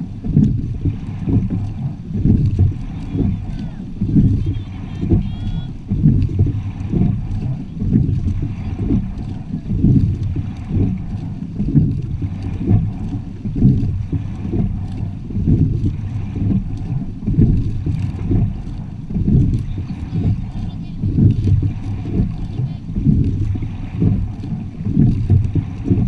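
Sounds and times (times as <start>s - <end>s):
water rushing along boat hull: 0.0s - 26.0s
wind buffeting microphone: 0.0s - 26.0s.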